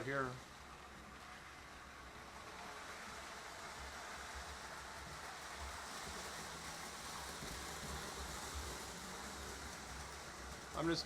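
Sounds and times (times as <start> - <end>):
model trains rumbling on track: 0.0 - 11.0.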